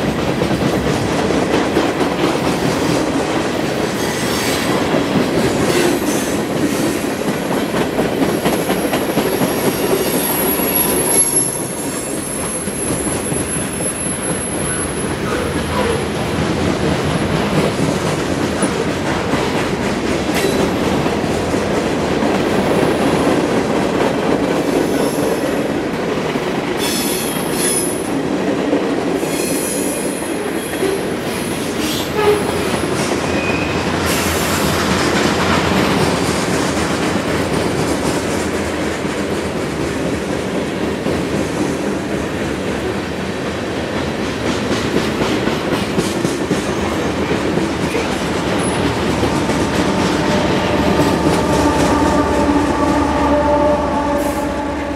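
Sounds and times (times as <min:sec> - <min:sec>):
freight train rolling on rails: 0:00.0 - 0:54.9.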